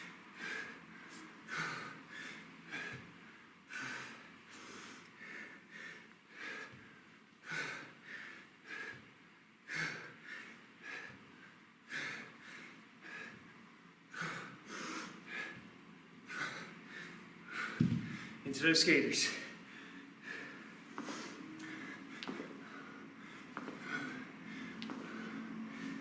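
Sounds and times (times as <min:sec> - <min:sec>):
man breathing hard: 0:00.0 - 0:18.4, 0:19.2 - 0:26.0.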